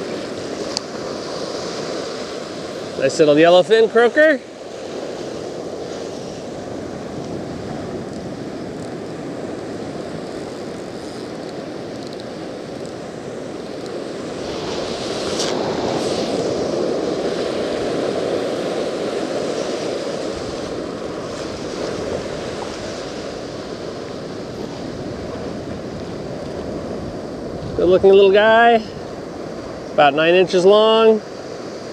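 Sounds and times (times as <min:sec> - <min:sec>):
small ocean waves washing: 0:00.0 - 0:31.9
wind buffeting microphone: 0:00.0 - 0:31.9.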